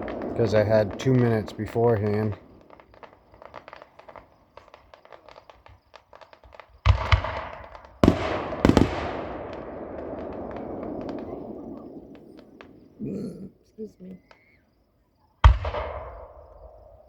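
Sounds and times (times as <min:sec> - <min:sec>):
loud firework bangs: 0:00.0 - 0:13.0, 0:15.4 - 0:17.0
faint firework pops and crackles: 0:00.0 - 0:13.1, 0:14.1 - 0:17.0.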